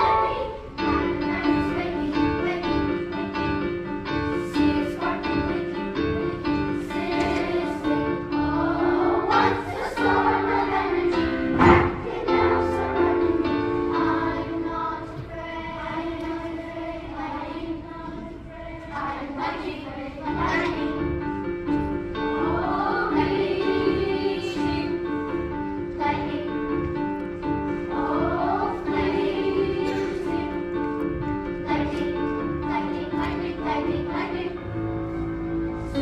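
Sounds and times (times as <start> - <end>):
children's chorus singing: 0.0 - 36.0.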